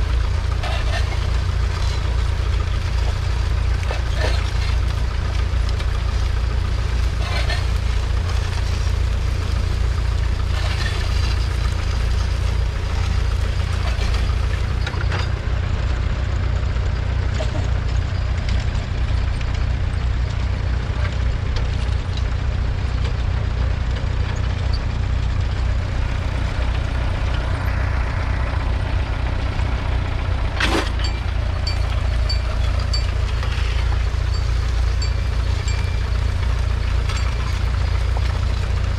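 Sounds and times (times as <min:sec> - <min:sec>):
diesel tractor engine under load: 0:00.0 - 0:38.9.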